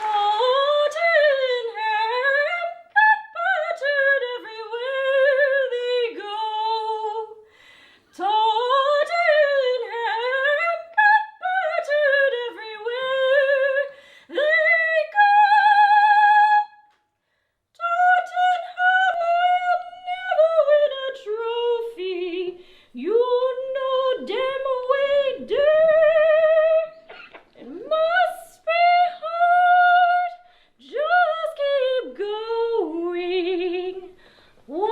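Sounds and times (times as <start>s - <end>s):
woman singing unaccompanied: 0.0s - 7.5s, 8.1s - 17.0s, 17.8s - 34.9s.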